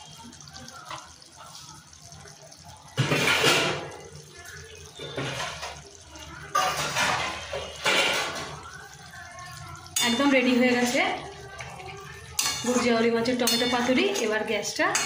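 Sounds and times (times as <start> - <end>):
curry gravy bubbling: 0.0 - 15.0.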